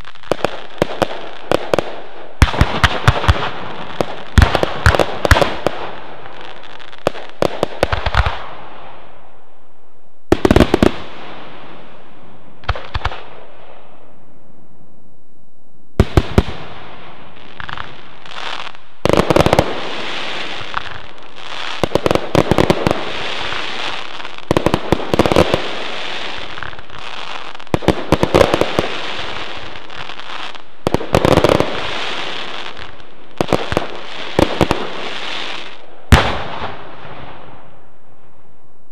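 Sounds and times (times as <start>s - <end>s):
fireworks hissing crackle: 0.0s - 9.1s, 10.3s - 13.3s, 16.0s - 37.7s
fireworks bangs: 0.0s - 9.2s, 10.3s - 14.1s, 16.0s - 38.4s.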